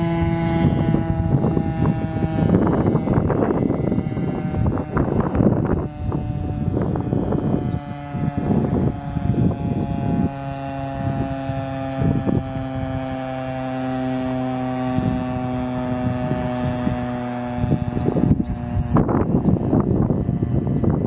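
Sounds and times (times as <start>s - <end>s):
warning siren steady tone: 0.0s - 21.0s
wind buffeting microphone: 0.0s - 21.0s.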